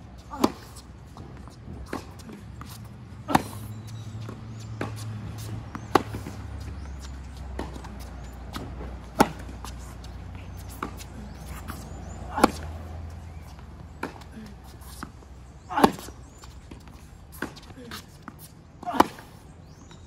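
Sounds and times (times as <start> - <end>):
tennis ball bounces: 0.2 - 20.0
racket hitting tennis ball: 0.3 - 19.4.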